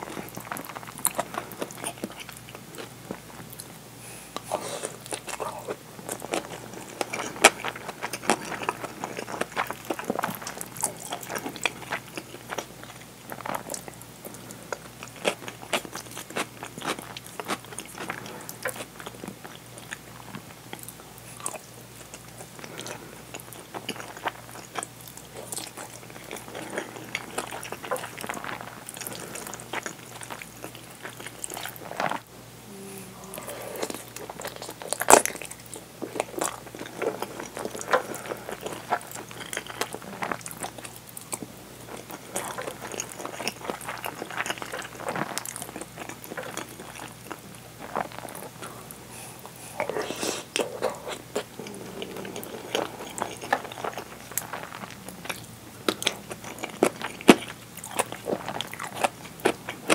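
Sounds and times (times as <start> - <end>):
wet chewing and crunching: 0.0 - 3.8, 4.4 - 32.3, 33.2 - 59.9.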